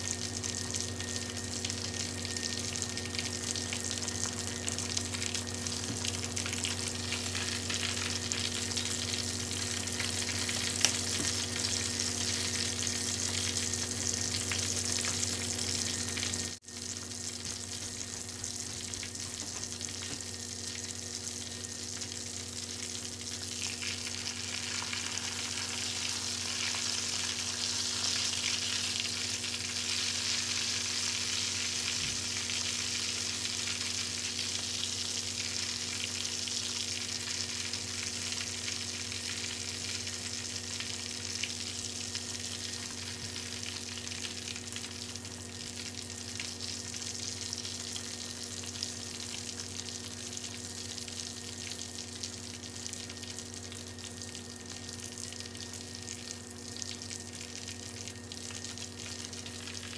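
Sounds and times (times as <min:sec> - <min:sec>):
oil sizzling and bubbling: 0:00.0 - 0:59.9.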